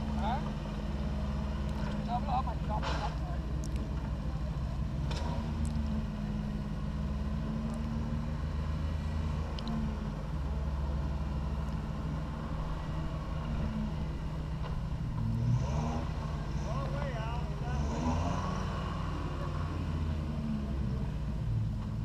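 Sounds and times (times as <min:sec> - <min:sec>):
off-road vehicle engine at low revs: 0:00.0 - 0:22.0.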